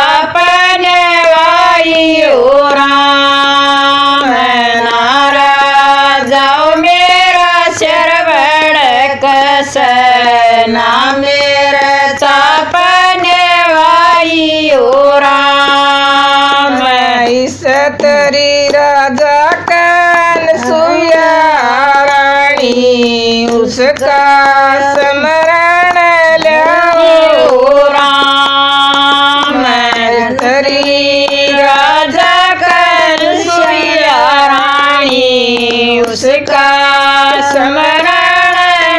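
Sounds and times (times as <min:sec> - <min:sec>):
women singing unaccompanied: 0:00.0 - 0:38.9.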